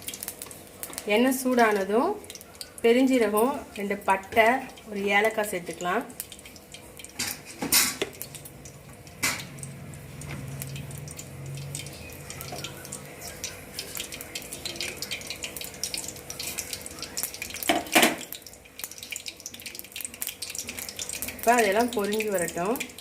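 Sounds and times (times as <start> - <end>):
spices sizzling in oil: 0.0 - 23.0.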